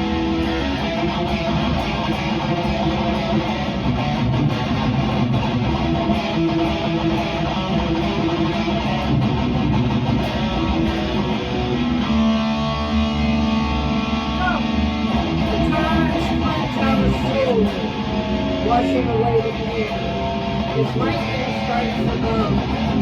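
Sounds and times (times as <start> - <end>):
bass guitar: 0.0 - 23.0
heavy metal electric guitar: 0.0 - 23.0.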